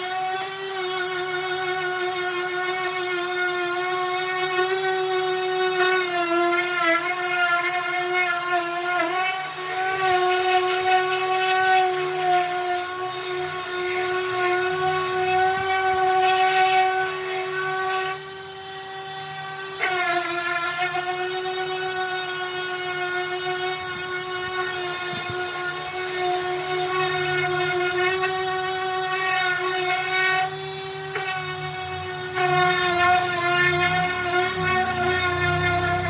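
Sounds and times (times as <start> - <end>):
power sander on wood: 0.0 - 36.0.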